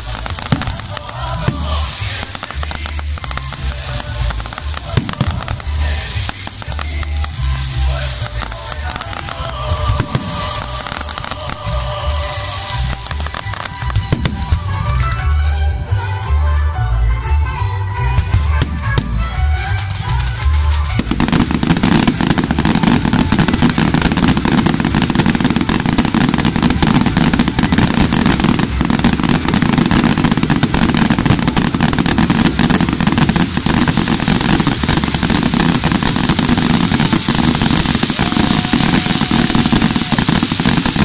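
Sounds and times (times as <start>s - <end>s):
firework spark fountains hissing: 0.0s - 14.8s, 18.7s - 41.0s
rapid crackling pops: 0.0s - 15.2s, 18.6s - 41.0s.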